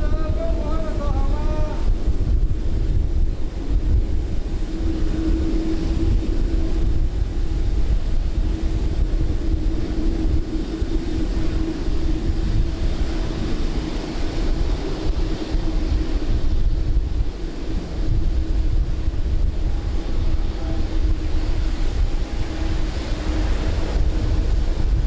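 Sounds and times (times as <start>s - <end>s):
droning hum: 0.0s - 25.0s
heavy low rumble: 0.0s - 25.0s.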